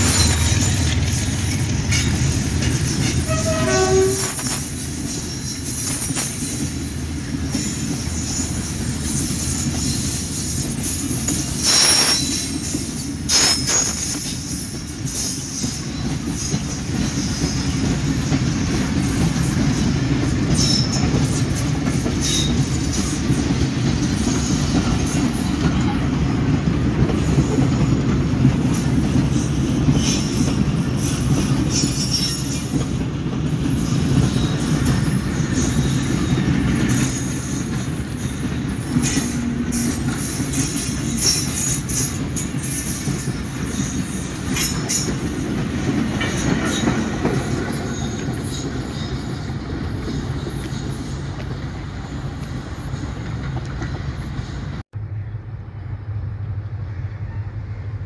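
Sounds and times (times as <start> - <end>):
train wheel clatter: 0.0 - 54.8
steel wheels rumbling on rails: 0.0 - 58.0.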